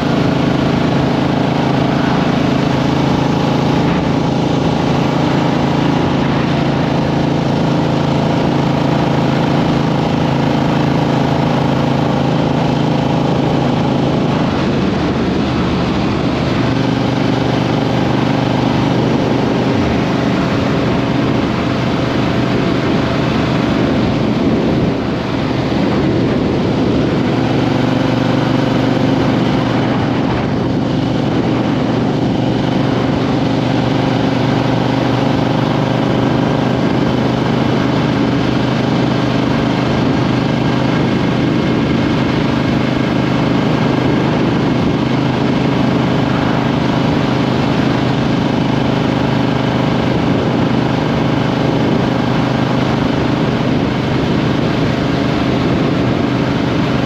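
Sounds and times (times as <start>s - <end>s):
motorcycle engine running steadily: 0.0s - 57.0s.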